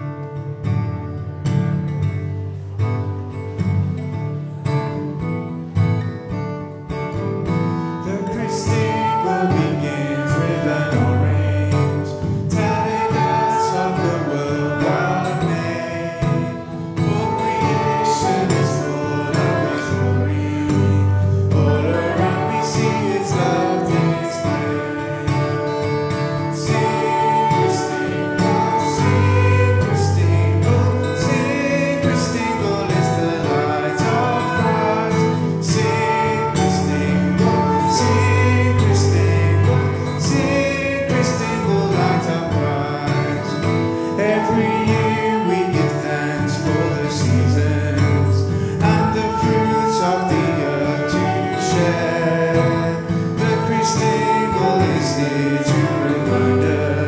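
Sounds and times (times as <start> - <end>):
acoustic guitars strummed: 0.0 - 57.0
saxophone: 0.0 - 57.0
man and woman singing: 8.0 - 57.0.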